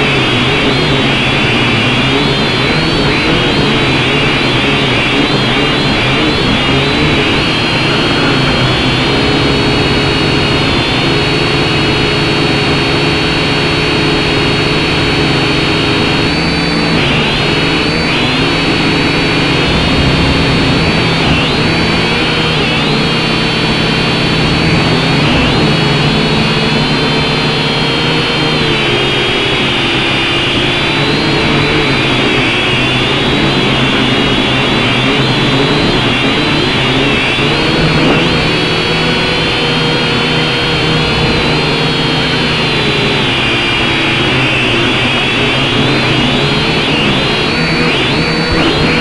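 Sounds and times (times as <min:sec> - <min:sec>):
drone propellers whirring: 0:00.0 - 0:49.0.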